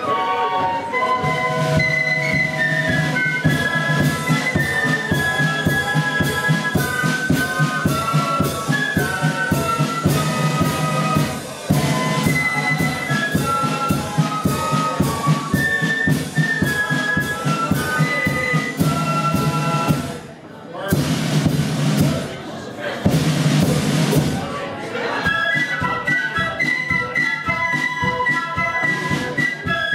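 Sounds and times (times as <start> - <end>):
flutes playing melody: 0.0 - 20.3, 25.0 - 29.9
side drums beating: 1.1 - 20.3, 20.9 - 22.4, 23.0 - 24.6, 25.2 - 29.9.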